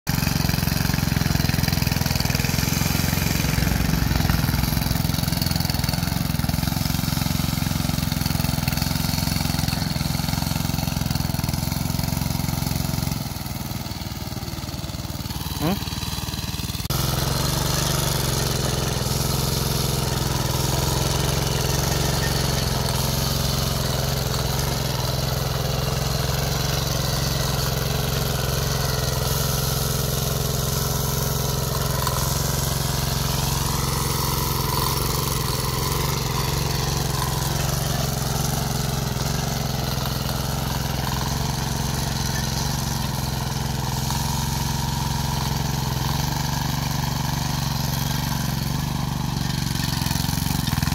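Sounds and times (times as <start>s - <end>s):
small petrol engine running: 0.0s - 50.9s
tiller tines churning soil: 0.1s - 50.9s.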